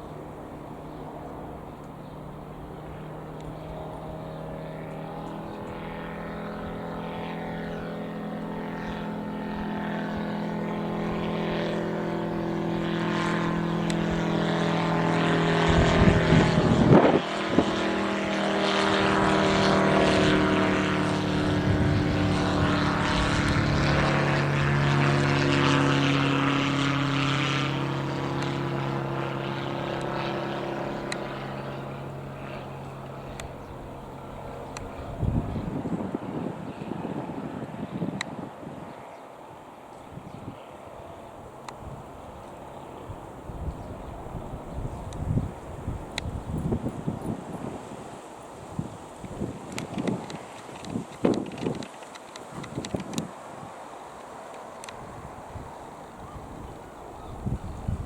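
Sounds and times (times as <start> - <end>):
light aeroplane flying past: 0.0 - 58.0.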